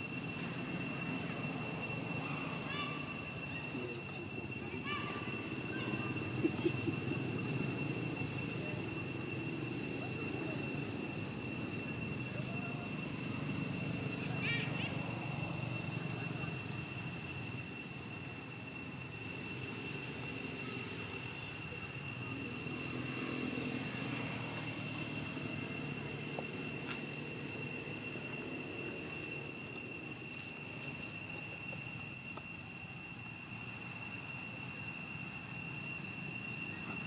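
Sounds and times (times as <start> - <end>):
high-pitched whine: 0.0 - 37.0
low rumble of distant engines: 0.0 - 37.0.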